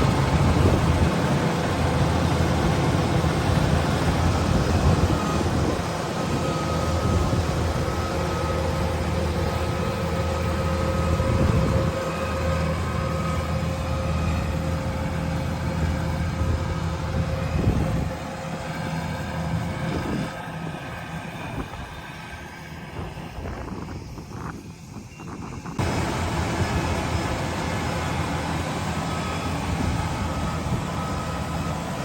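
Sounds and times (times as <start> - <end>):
diesel engine drone: 0.0 - 32.0
high machine whine: 0.0 - 32.0.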